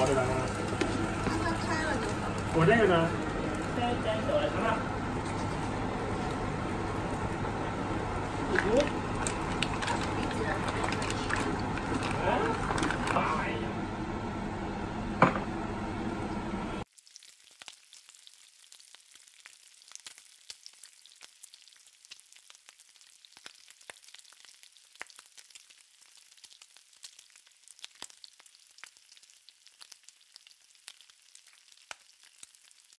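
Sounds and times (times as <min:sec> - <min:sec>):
pan sizzling on stove: 0:00.0 - 0:33.0.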